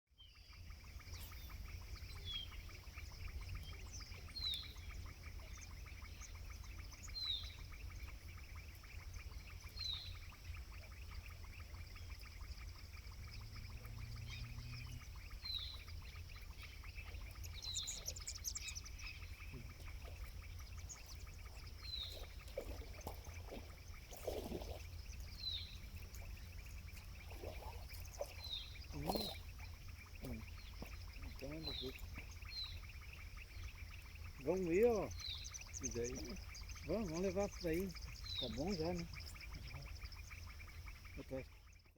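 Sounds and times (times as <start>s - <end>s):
constant low rumble: 0.3s - 41.9s.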